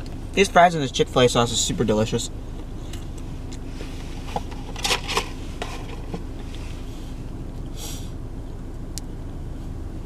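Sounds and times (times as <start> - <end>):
low hum inside car: 0.0 - 10.0.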